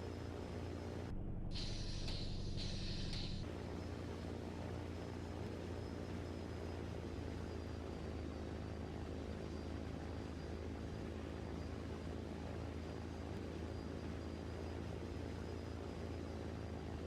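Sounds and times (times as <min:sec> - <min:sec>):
low engine-like drone: 0:00.0 - 0:17.0.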